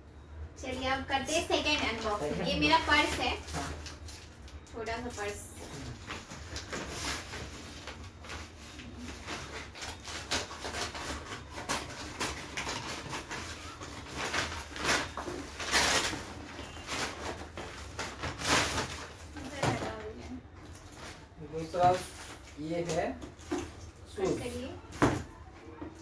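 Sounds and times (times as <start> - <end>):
plastic packaging crinkling: 1.7 - 23.9.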